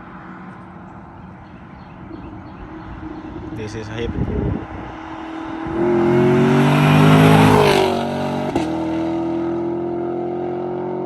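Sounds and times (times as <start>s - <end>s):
car accelerating past: 1.8s - 11.0s.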